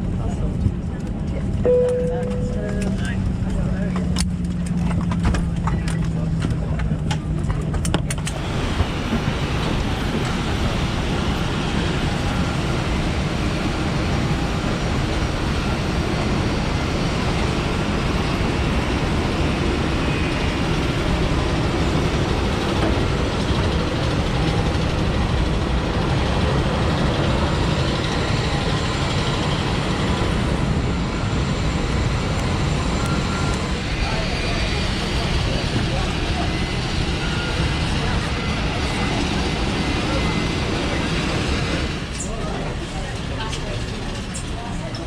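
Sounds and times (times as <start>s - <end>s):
loud rushing airport apron noise: 8.3s - 45.0s.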